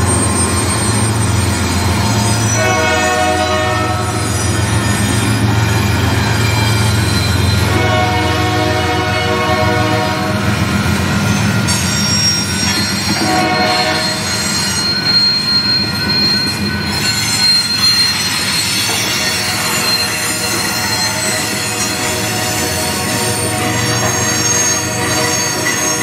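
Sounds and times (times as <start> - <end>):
high wheel squealing: 0.0 - 7.9, 10.5 - 26.0
train wheels rumbling on rail: 0.0 - 26.0.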